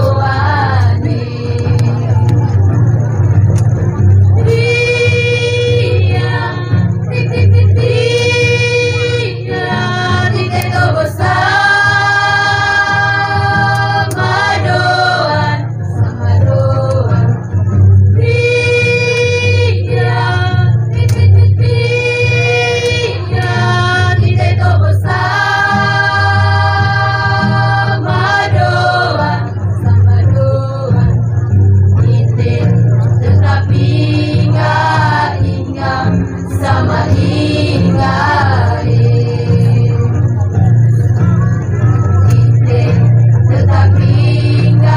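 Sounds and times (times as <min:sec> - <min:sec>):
girls singing unaccompanied: 0:00.0 - 0:44.9.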